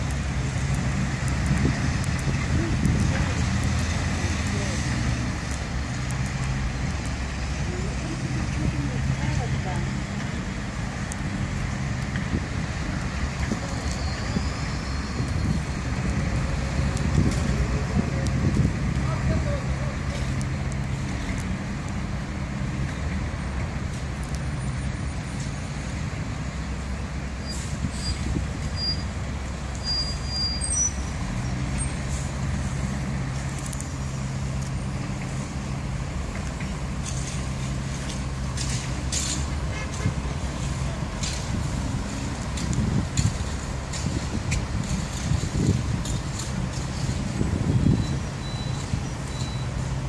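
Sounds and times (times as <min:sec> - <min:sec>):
cars passing: 0:00.0 - 0:50.0
heavy vehicle engines humming: 0:00.0 - 0:50.0.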